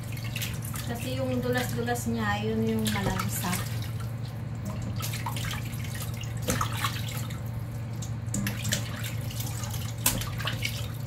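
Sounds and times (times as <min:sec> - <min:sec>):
steady low hum: 0:00.0 - 0:11.0
water splashes and drips: 0:00.0 - 0:11.0.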